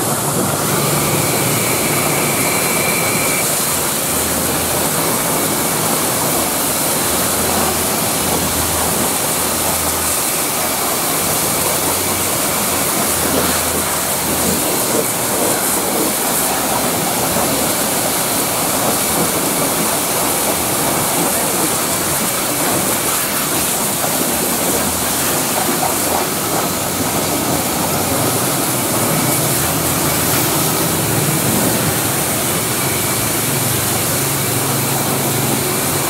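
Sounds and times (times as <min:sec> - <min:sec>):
pressure washer spraying metal: 0:00.0 - 0:36.0.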